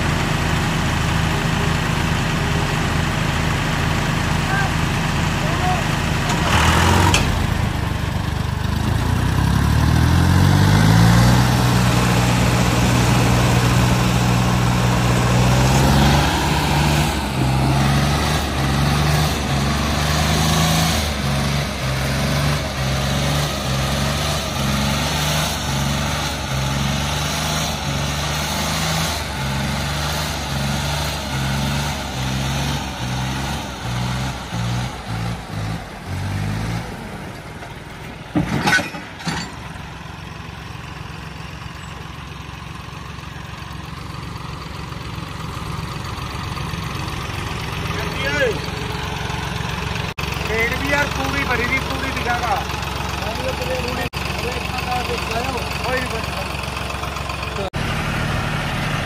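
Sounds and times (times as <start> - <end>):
tractor diesel engines labouring: 0.0 - 59.0.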